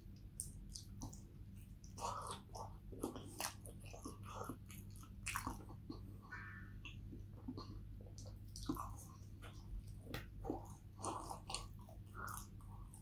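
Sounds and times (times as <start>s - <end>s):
steady low hum: 0.0s - 13.0s
chewing with wet mouth clicks: 0.1s - 6.1s, 6.8s - 13.0s.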